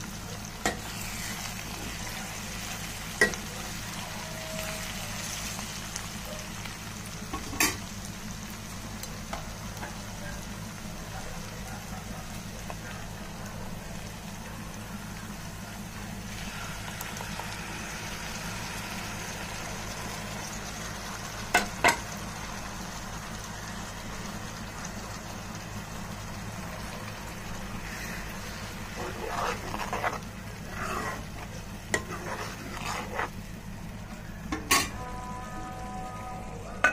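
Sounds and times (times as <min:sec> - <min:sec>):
onions sizzling in a pan: 0:00.0 - 0:36.9
steady low hum: 0:05.2 - 0:36.9.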